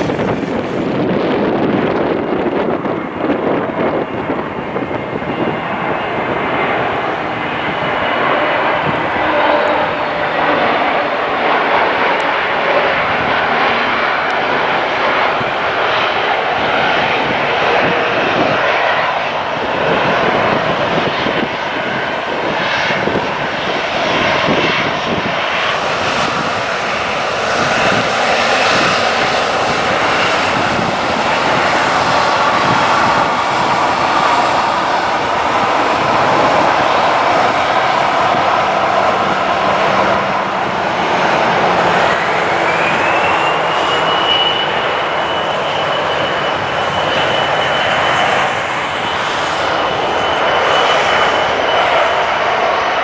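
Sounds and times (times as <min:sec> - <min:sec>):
airliner engines roaring: 0:00.0 - 0:53.0
thin high whine: 0:04.1 - 0:21.6, 0:26.1 - 0:53.0.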